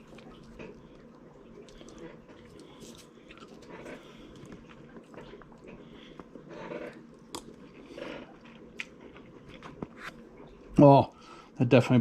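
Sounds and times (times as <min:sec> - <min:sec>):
person chewing food: 0:00.0 - 0:10.7.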